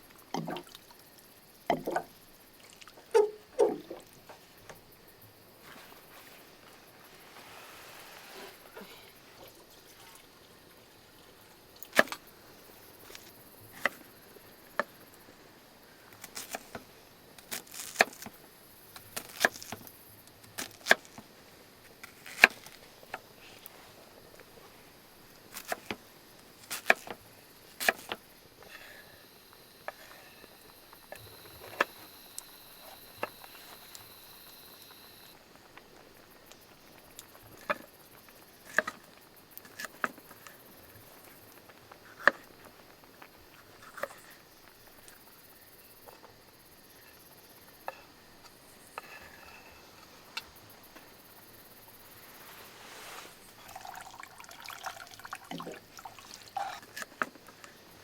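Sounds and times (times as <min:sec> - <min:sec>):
faint steady background noise: 0:00.0 - 0:58.0.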